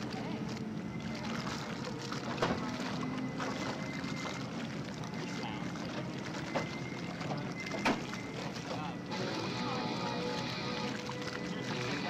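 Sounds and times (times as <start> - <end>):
hiss of wind and water: 0.0 - 12.0
jet ski engine running: 0.0 - 12.0.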